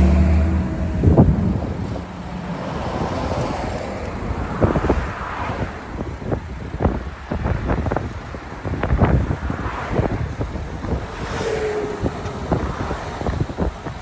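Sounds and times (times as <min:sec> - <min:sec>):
vehicle engine hum: 0:00.0 - 0:14.0
wind on microphone: 0:00.0 - 0:14.0.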